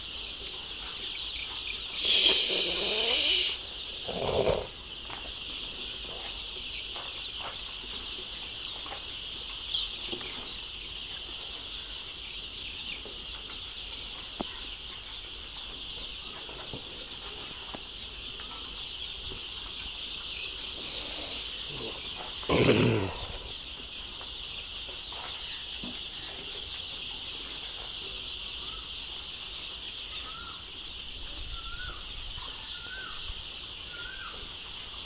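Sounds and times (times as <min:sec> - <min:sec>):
chicks peeping: 0:00.0 - 0:35.0.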